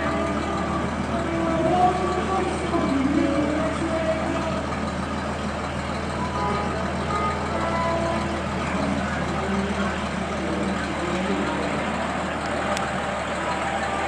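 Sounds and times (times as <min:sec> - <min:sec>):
heavy truck engine idling: 0:00.0 - 0:14.0.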